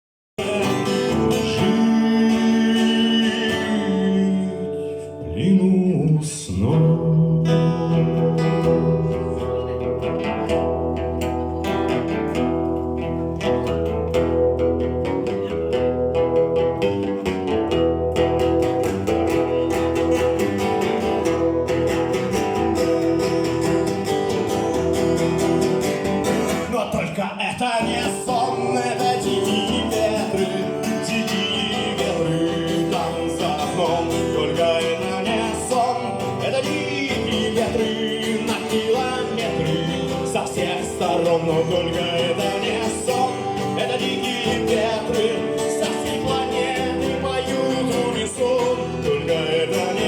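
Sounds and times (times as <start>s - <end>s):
acoustic guitar playing: 0.4s - 50.0s.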